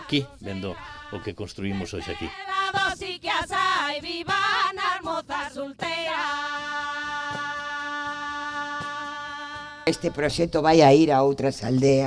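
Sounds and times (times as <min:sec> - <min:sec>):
women singing folk song: 0:00.0 - 0:10.1.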